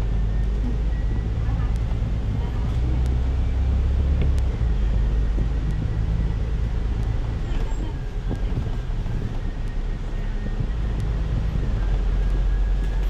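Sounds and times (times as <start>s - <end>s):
bus engine drone and road rumble: 0.0s - 13.0s.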